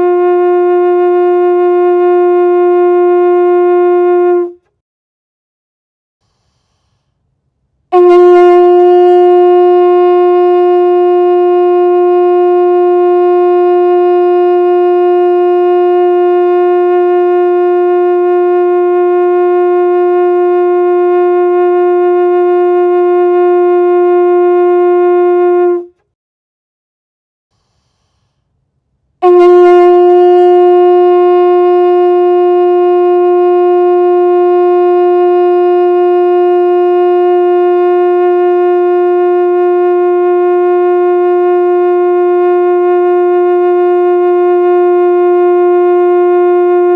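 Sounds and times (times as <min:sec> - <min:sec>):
conch shell blast: 0:00.0 - 0:04.8, 0:07.9 - 0:26.1, 0:29.1 - 0:46.9.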